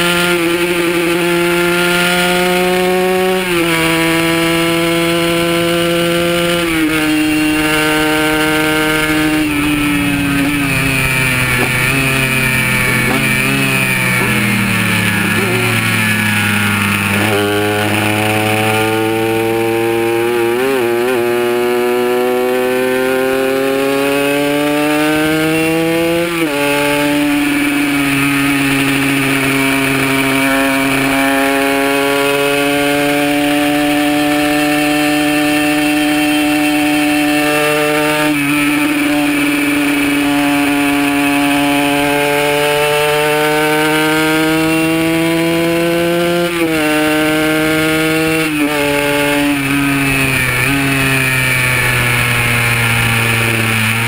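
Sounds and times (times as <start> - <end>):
two-stroke engine accelerating: 0.0 - 54.0.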